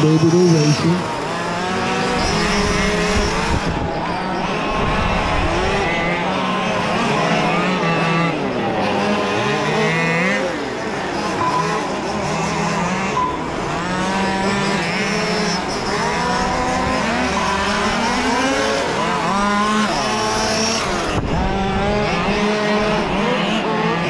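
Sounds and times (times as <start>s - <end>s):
model race car engines revving: 0.0s - 24.0s.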